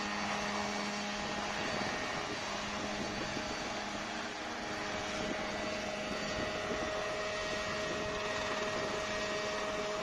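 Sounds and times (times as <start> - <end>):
helicopter engine and rotors: 0.0 - 10.0.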